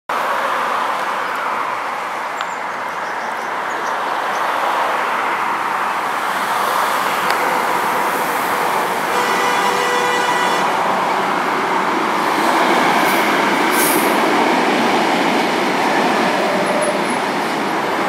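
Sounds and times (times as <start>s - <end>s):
freight train on rails: 0.1s - 18.0s.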